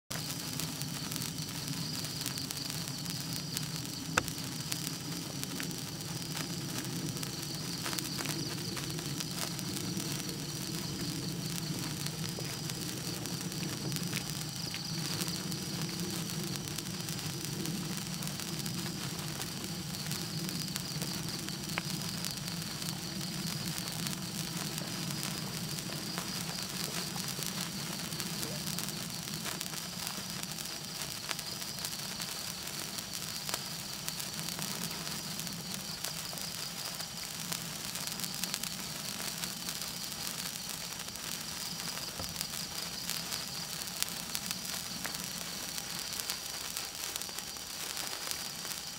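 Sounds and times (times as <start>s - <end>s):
sparkler fizzing and crackling: 0.1s - 48.9s.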